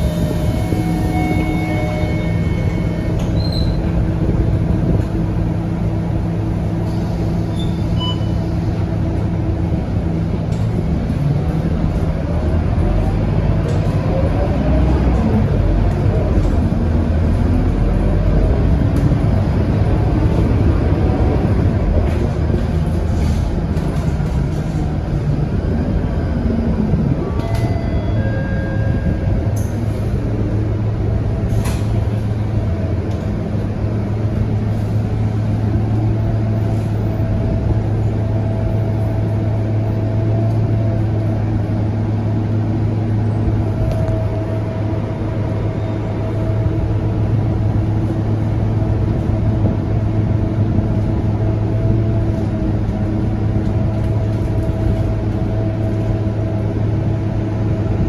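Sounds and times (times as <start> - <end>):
bus diesel engine humming: 0.0 - 58.0
road and tyre noise: 0.0 - 58.0.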